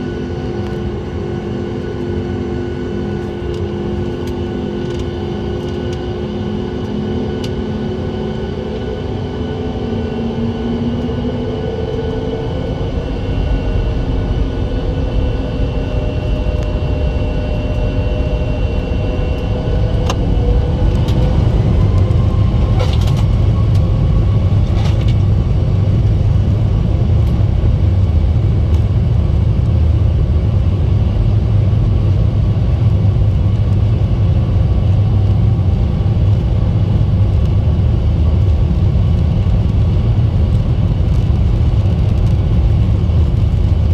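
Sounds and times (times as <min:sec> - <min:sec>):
deep rumble of takeoff roll: 0:00.0 - 0:43.9
jet engine fan whine: 0:00.0 - 0:43.9.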